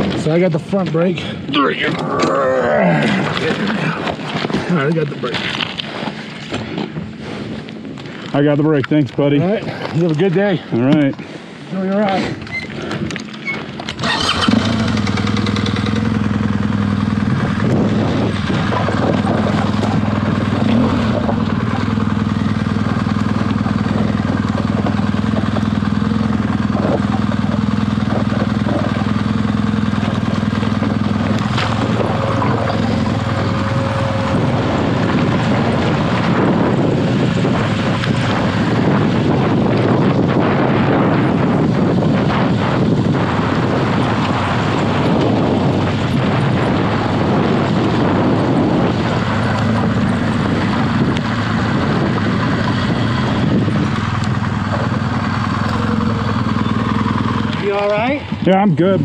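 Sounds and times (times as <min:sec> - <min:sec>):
motorcycle engine running: 0:00.0 - 0:01.8, 0:11.8 - 0:59.0.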